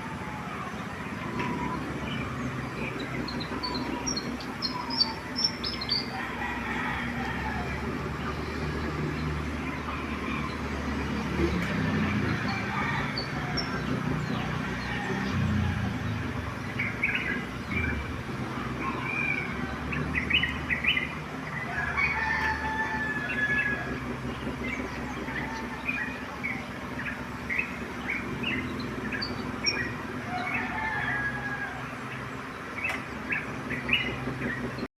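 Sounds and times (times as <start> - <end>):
roosters crowing: 0.0 - 34.9
small birds chirping: 0.0 - 34.9.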